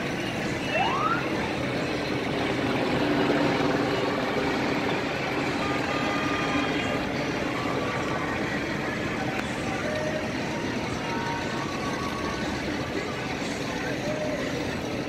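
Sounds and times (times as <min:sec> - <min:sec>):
motorboat engines running: 0:00.0 - 0:15.0.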